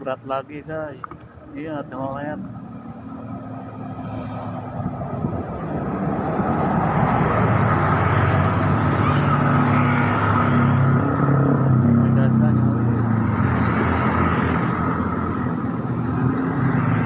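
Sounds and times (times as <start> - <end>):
heavy truck engine climbing: 0.0 - 17.0.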